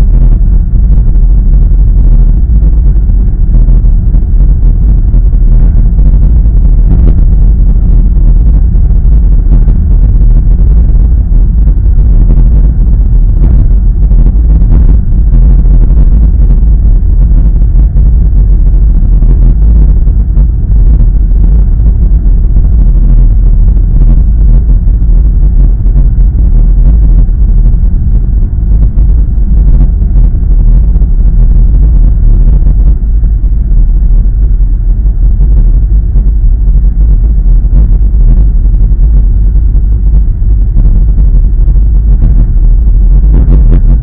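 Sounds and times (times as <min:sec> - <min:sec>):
car interior road rumble: 0:00.0 - 0:44.0.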